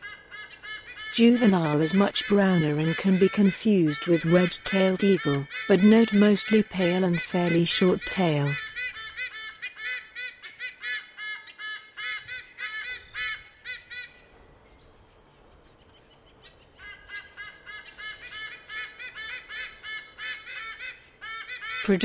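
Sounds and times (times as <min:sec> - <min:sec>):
eagle honking calls: 0:00.0 - 0:14.2, 0:16.8 - 0:22.0.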